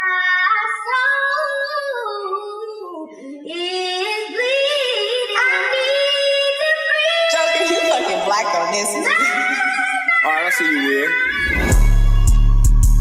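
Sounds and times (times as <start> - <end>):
high sung vocal melody: 0.0 - 13.0.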